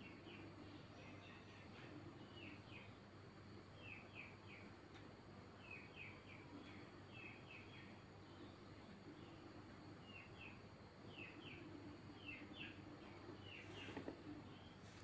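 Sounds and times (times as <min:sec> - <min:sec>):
faint bird chirps: 0:00.0 - 0:15.0
low steady hiss: 0:00.0 - 0:15.0.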